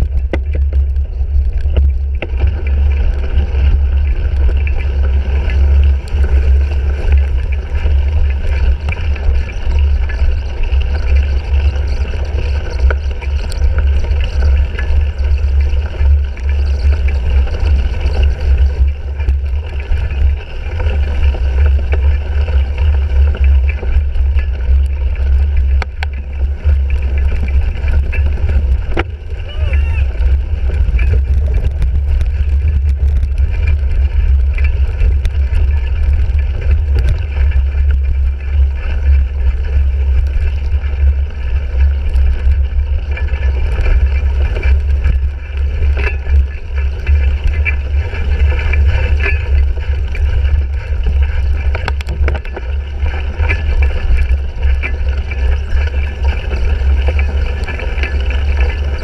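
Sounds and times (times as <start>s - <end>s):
bike clicks and knocks: 0.0s - 59.0s
wind and riding noise: 0.0s - 59.0s.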